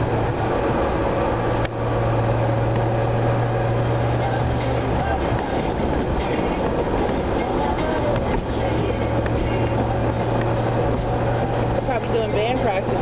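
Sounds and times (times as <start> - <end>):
car engine drone: 0.0 - 13.0
road rumble: 0.0 - 13.0.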